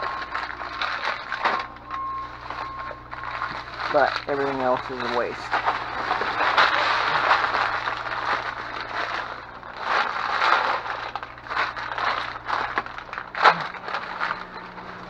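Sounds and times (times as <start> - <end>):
plastic wrappers crinkling: 0.0 - 15.0.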